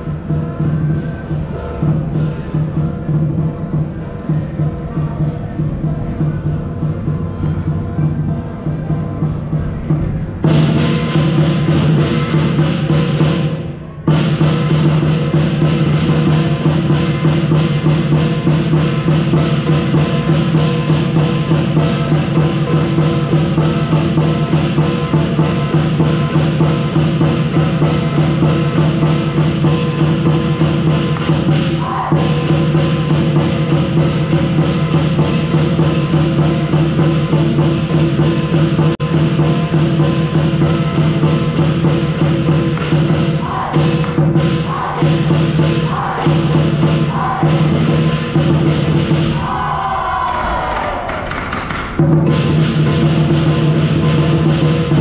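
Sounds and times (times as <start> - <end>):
cymbals and gong ringing: 0.0 - 55.0
large drum beaten fast: 0.0 - 55.0.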